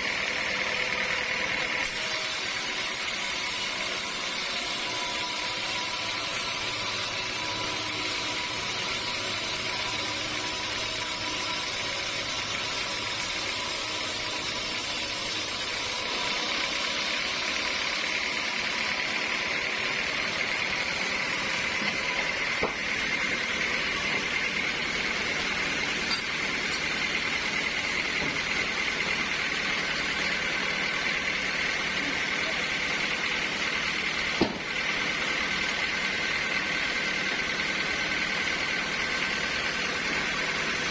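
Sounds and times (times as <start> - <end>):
sawmill high whine: 0.0 - 40.9.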